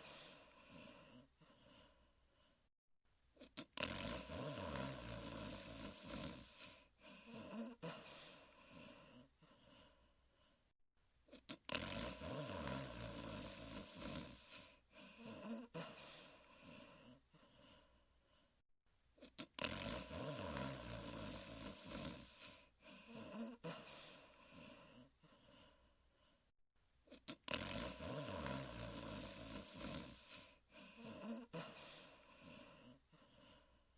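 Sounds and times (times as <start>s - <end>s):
cartoon snoring: 0.0s - 2.6s, 3.4s - 10.6s, 11.3s - 18.6s, 19.2s - 26.5s, 27.1s - 33.9s.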